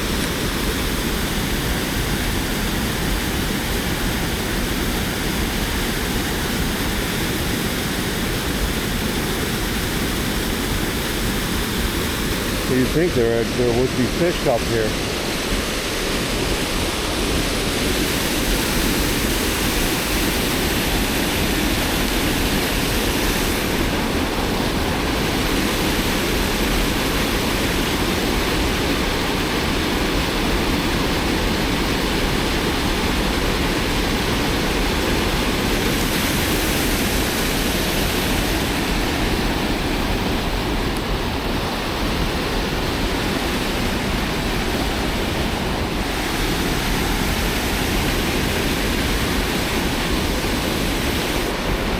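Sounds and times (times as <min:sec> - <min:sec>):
fast-flowing river rushing: 0:00.0 - 0:51.9.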